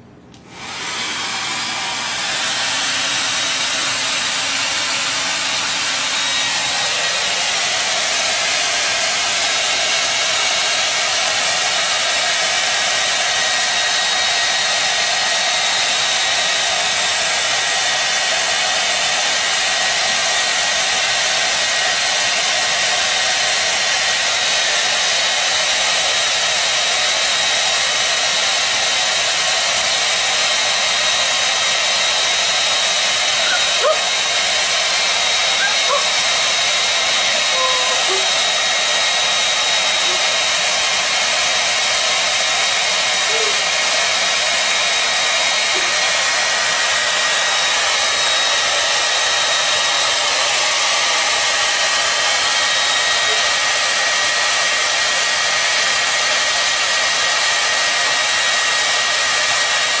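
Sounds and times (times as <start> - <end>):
hair dryer blowing with whine: 0.0 - 60.0.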